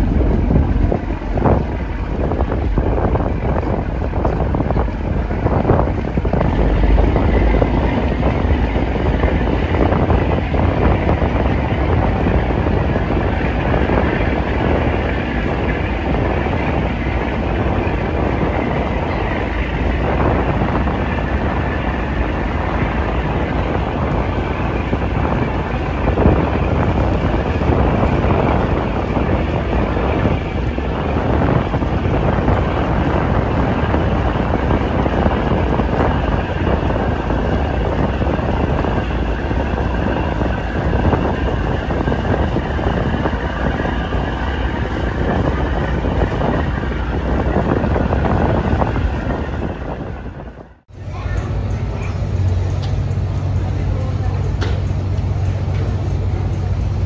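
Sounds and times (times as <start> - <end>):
boat engine running: 0.0 - 57.0
wind on microphone: 0.0 - 57.0.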